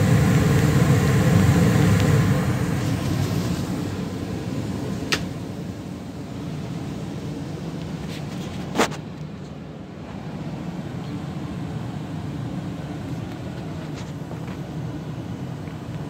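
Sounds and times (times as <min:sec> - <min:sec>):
gas furnace rumbling: 0:00.0 - 0:16.0.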